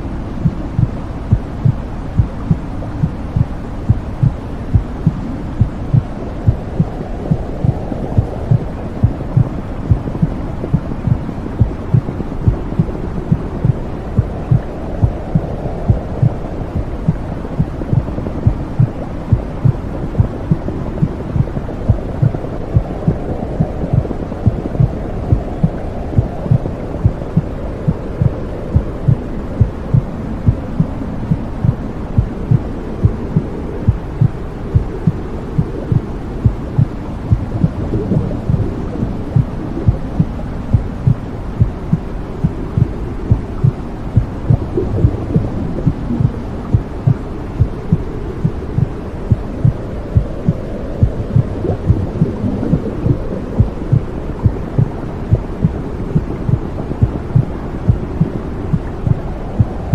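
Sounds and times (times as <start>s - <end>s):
muffled low whooshing: 0.0s - 59.9s
heartbeat thumping: 0.4s - 59.9s.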